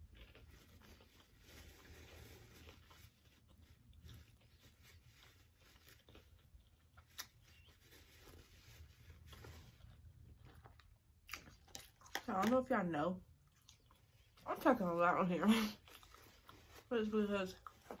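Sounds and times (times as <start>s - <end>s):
person chewing: 0.0s - 12.6s, 13.3s - 14.4s, 15.8s - 16.9s, 17.6s - 18.0s.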